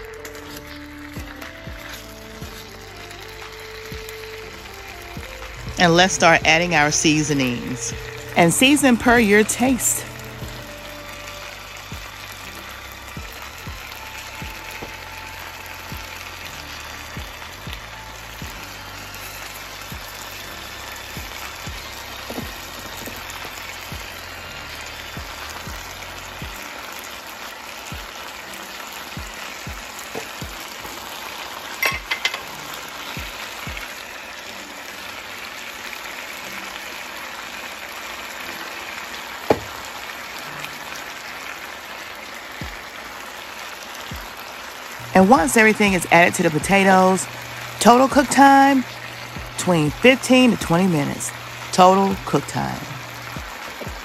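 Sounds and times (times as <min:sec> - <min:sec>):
potatoes sizzling in a skillet: 0:00.0 - 0:54.0.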